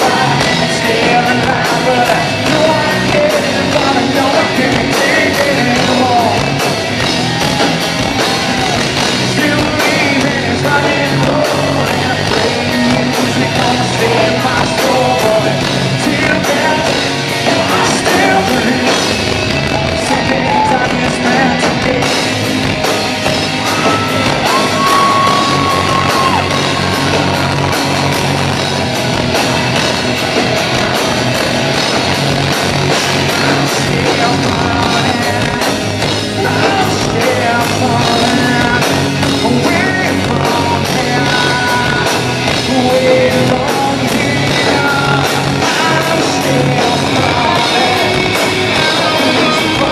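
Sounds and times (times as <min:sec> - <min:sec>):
crowd yelling: 0:00.0 - 0:49.9
live hard rock band: 0:00.0 - 0:49.9
person singing: 0:00.0 - 0:49.9.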